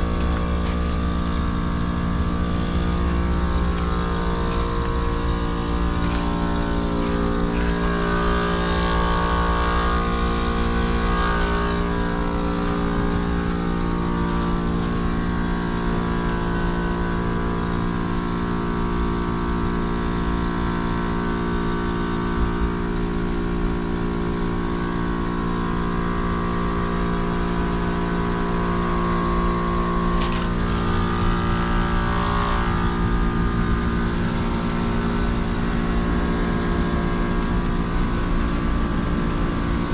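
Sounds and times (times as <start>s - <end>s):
heat pump compressor humming: 0.0s - 39.9s.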